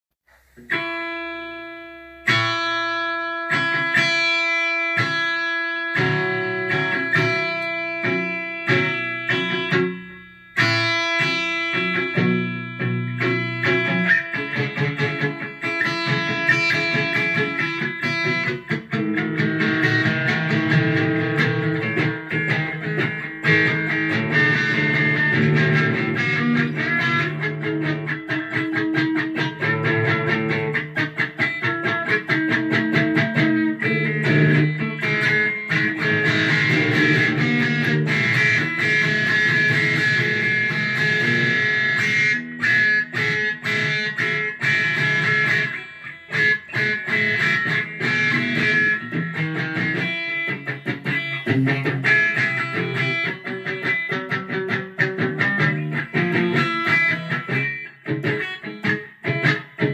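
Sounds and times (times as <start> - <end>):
electric guitar strumming chords: 0.3 - 59.9.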